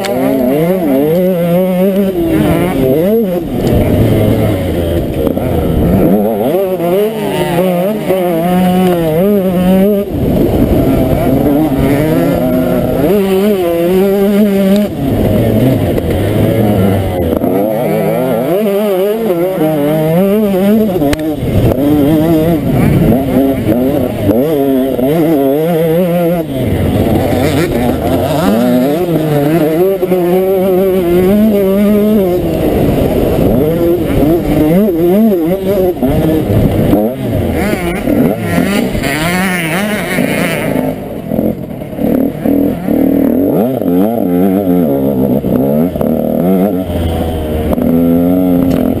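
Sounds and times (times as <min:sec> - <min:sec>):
two-stroke engine revving hard: 0:00.0 - 0:49.0.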